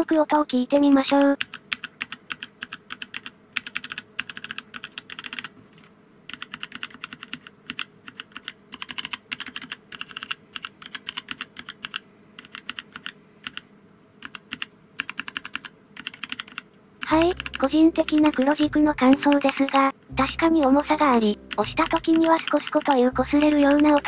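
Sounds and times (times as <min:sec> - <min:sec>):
mechanical keyboard keys pressed: 0:00.8 - 0:13.6, 0:14.2 - 0:19.8, 0:21.5 - 0:24.0.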